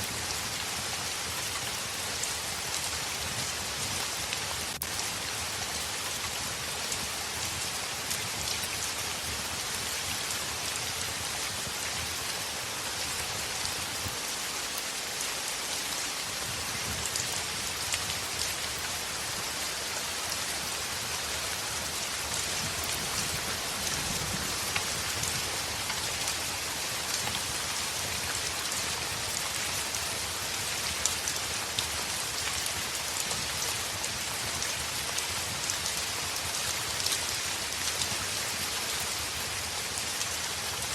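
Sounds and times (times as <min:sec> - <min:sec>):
heavy rain on a window: 0:00.0 - 0:40.9.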